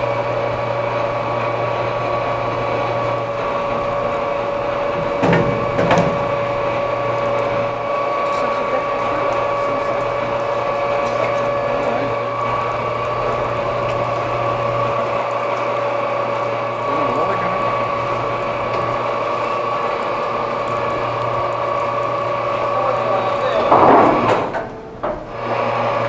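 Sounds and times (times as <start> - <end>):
winch mechanical drone: 0.0 - 26.0.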